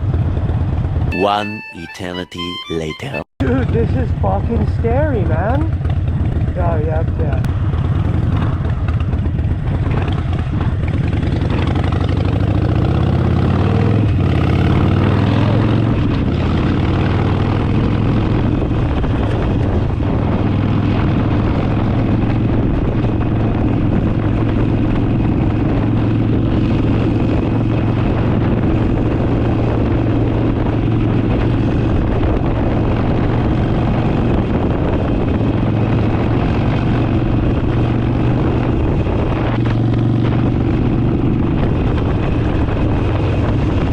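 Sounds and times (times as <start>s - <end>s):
motorcycle engine accelerating: 0.0s - 1.2s, 3.4s - 43.9s
wind noise: 3.4s - 43.9s.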